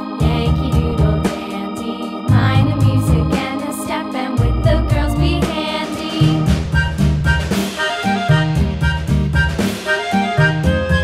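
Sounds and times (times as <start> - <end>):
instrumental music with drums: 0.2 - 11.0.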